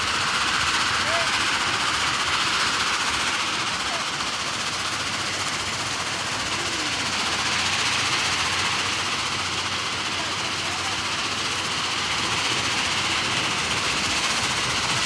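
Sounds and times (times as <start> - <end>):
stone crusher running: 0.0 - 15.0.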